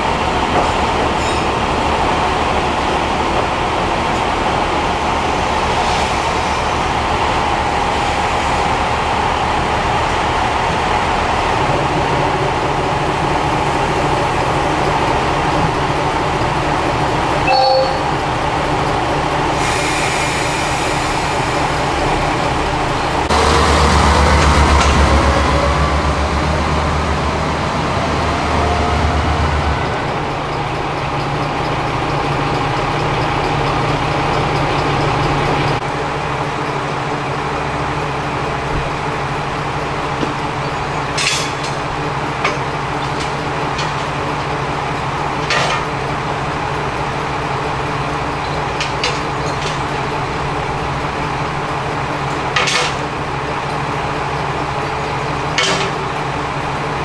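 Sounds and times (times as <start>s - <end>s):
diesel railcar engine droning: 0.0s - 57.0s.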